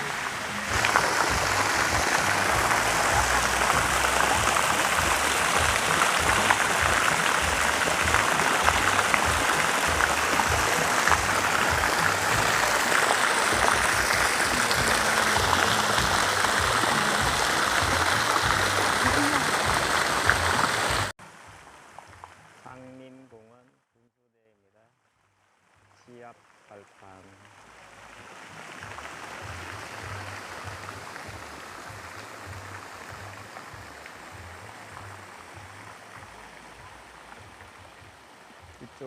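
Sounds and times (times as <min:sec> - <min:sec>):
falling splashing water: 0:00.0 - 0:22.8, 0:26.5 - 0:39.0.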